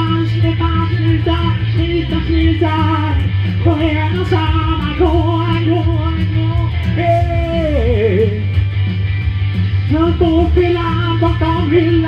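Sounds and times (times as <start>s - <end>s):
man singing: 0.0s - 8.6s, 9.8s - 12.0s
electric guitar: 0.0s - 12.0s.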